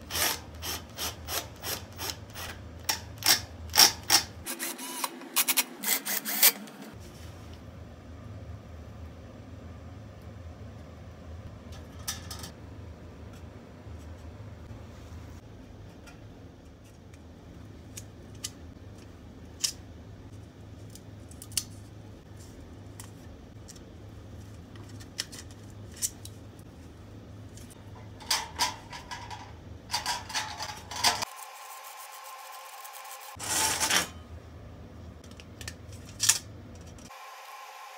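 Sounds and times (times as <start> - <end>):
steady low hum: 0.0 - 31.3, 34.0 - 37.1.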